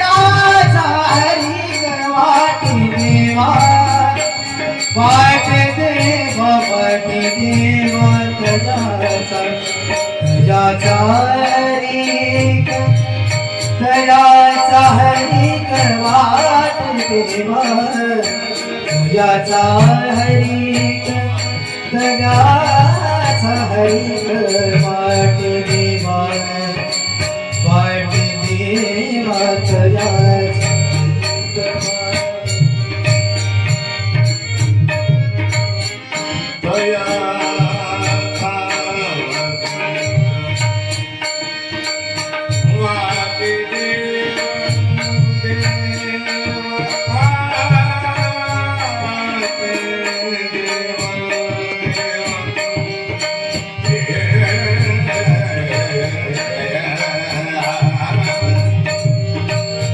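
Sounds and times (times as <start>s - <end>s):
small hand cymbals: 0.0s - 59.9s
tabla playing: 0.0s - 59.9s.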